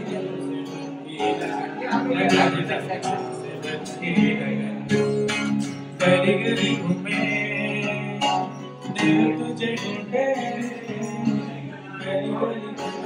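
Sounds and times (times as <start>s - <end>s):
acoustic guitar strumming: 0.0s - 13.0s
man singing into a microphone: 0.0s - 13.0s.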